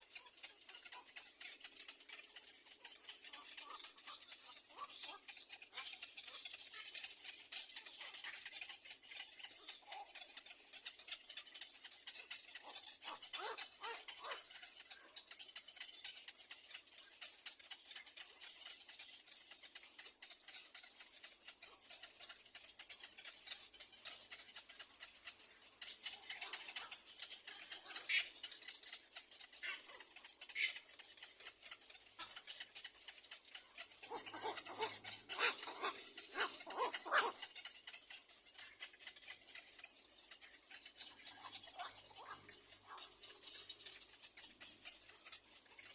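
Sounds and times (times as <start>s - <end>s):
egret chicks clicking chatter: 0.0s - 45.9s.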